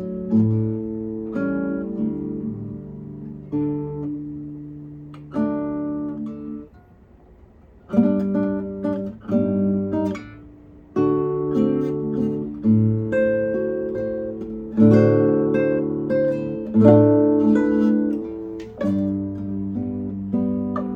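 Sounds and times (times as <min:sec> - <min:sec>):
acoustic guitar plucked chords: 0:00.0 - 0:20.9.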